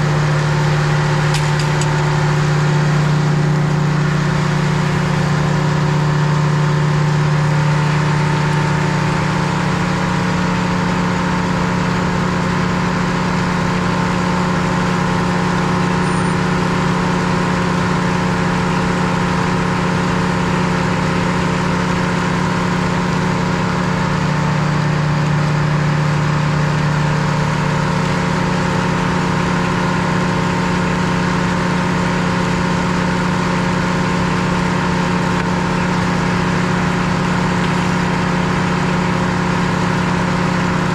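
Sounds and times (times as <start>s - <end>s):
sawmill engine humming: 0.0s - 40.9s.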